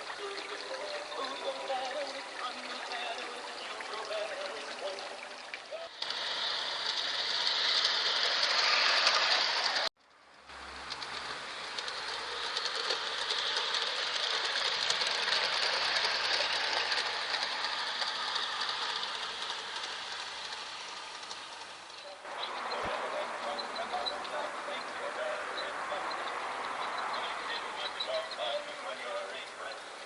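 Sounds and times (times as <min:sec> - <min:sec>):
model train wheels rattling on rails: 0:00.0 - 0:30.0.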